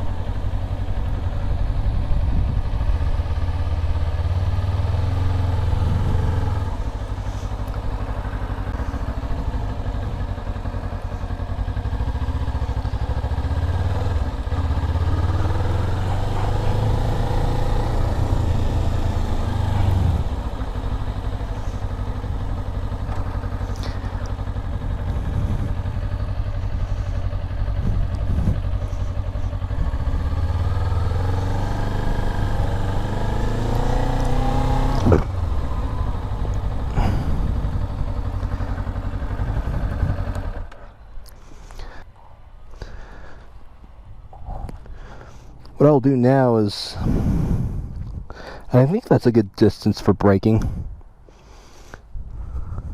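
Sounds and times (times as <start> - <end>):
motorcycle engine accelerating: 0.0 - 45.8.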